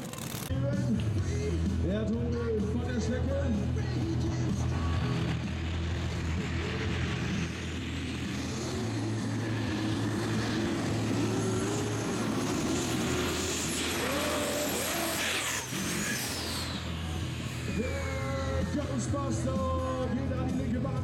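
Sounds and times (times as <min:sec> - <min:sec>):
tractor engine running hard: 0:00.0 - 0:21.0.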